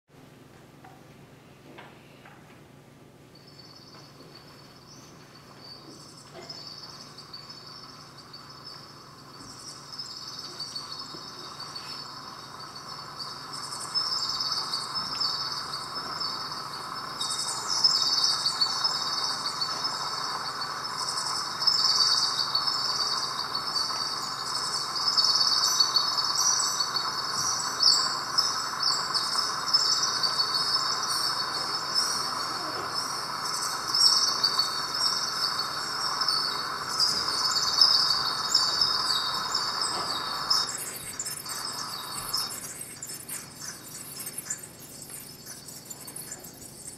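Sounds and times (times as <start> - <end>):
soft hiss: 0.2 - 46.9
electronic chirps and clicks: 5.5 - 46.9.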